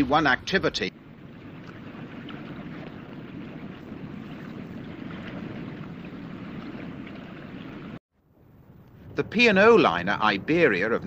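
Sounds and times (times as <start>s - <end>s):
wind: 0.0s - 11.0s
water rumbling: 0.1s - 11.0s.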